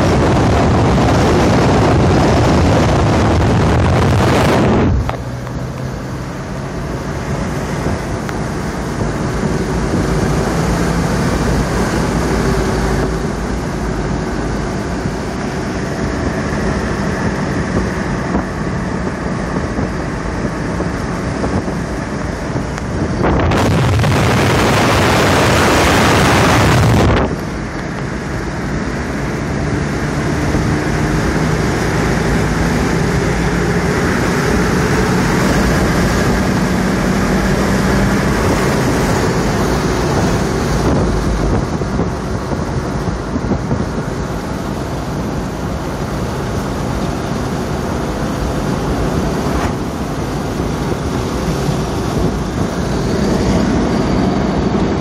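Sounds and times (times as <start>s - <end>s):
car engine cruising: 0.0s - 55.0s
wind on microphone: 0.0s - 55.0s.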